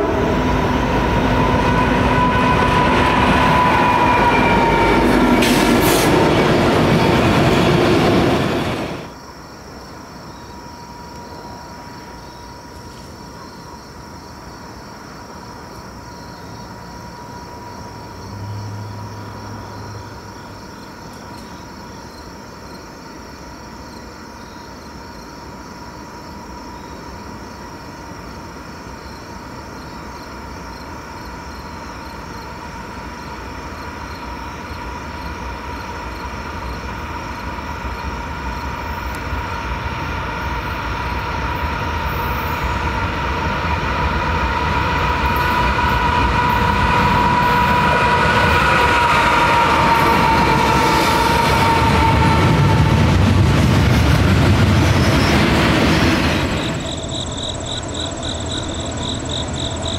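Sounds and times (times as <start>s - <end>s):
diesel freight train approaching: 0.0s - 59.9s.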